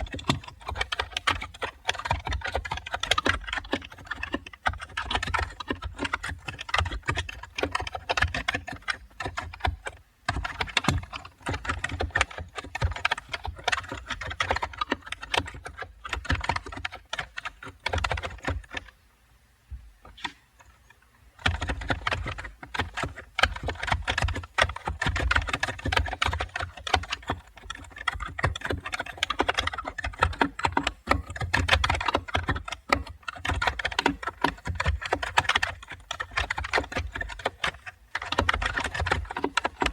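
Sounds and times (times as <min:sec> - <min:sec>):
rapid typing on keyboard: 0:00.0 - 0:19.0, 0:21.4 - 0:39.9.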